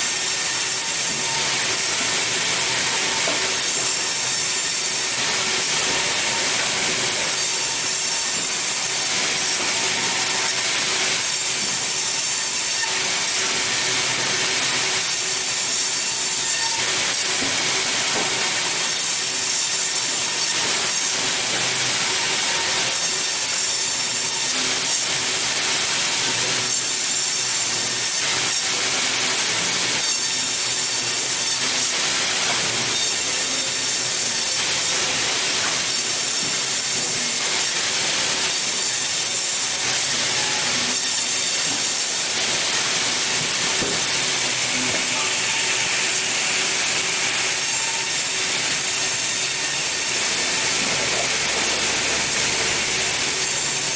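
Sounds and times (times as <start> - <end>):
saw cutting through wood: 0.0 - 53.9.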